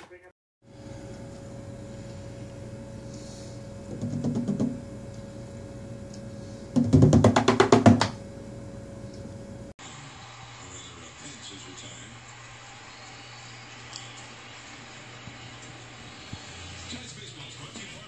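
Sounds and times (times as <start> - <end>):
faint steady hum: 0.7 - 16.8.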